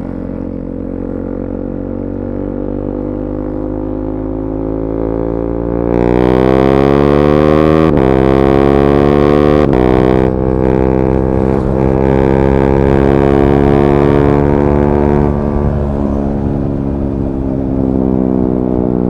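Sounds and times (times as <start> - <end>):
motorcycle engine accelerating hard: 0.0 - 19.0.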